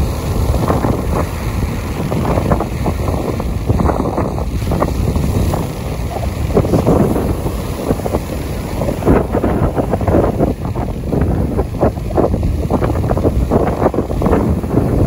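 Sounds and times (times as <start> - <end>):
waves breaking on beach: 0.0 - 15.0
wind buffeting microphone: 0.0 - 15.0.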